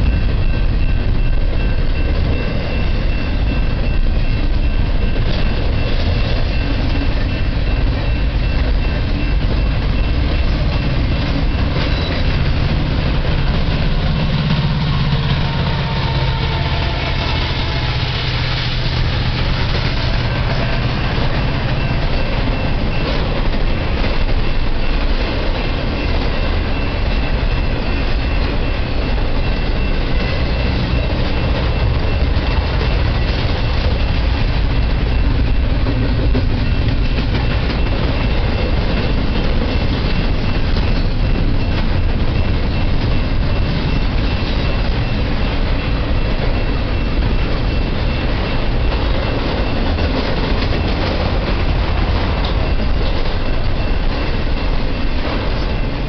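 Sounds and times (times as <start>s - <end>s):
diesel locomotive engine drone: 0.0s - 56.0s
freight train rumbling on rails: 0.0s - 56.0s.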